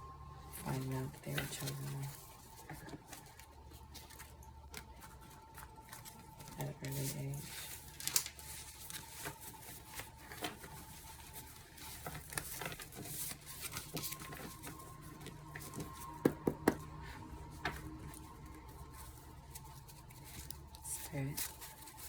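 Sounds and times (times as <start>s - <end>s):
cards being shuffled: 0.6s - 22.0s.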